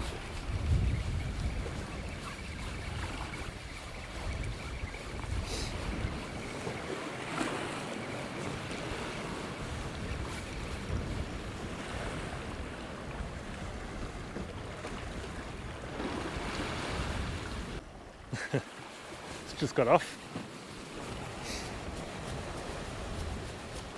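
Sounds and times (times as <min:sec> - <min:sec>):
wind buffeting the microphone: 0:00.0 - 0:17.8, 0:20.9 - 0:23.9
waves on a rocky shore: 0:00.0 - 0:23.9.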